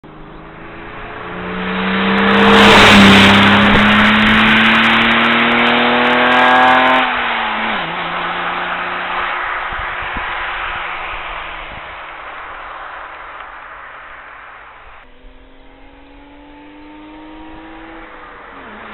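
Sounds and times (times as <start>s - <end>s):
car engine running hard: 0.0s - 18.9s.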